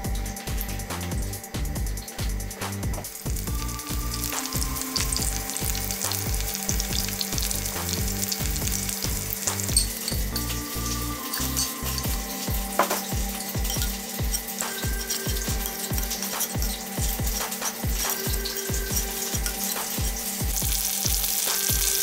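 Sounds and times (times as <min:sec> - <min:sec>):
chicken sizzling in hot oil: 0:00.0 - 0:22.0
music with electronic beat: 0:00.0 - 0:22.0.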